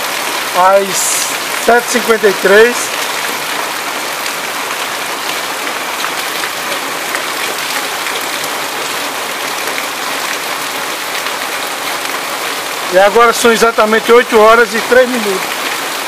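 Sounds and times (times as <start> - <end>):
heavy rain on pavement: 0.0 - 16.0.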